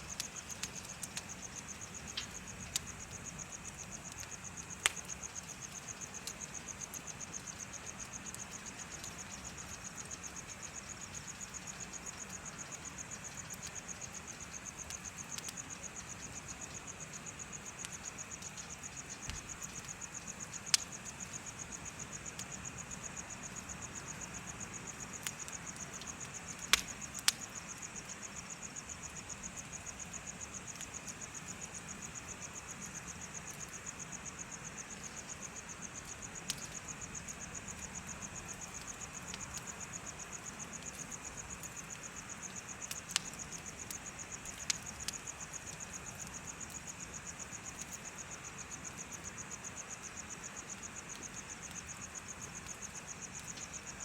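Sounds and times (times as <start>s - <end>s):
sharp pops from fire: 0.0s - 48.2s
bonfire crackling: 0.0s - 54.0s
insects chirping: 0.0s - 54.0s.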